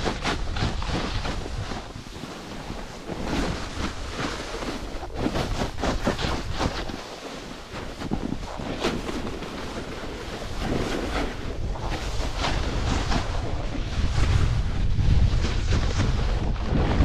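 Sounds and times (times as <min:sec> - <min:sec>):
snowboard scraping on snow: 0:00.0 - 0:17.0
wind rumbling on microphone: 0:00.0 - 0:17.0.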